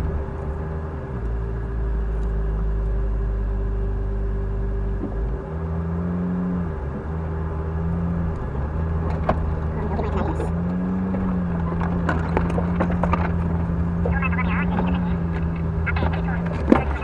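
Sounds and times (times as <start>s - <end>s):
vehicle engine at low revs: 0.0s - 17.0s.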